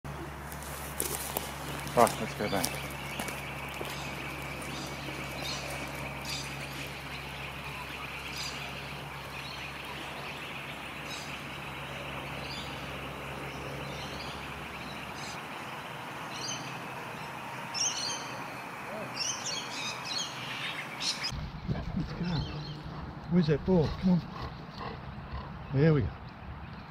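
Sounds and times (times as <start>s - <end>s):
low background hum: 0.1s - 25.6s
birds chirping: 0.1s - 26.9s.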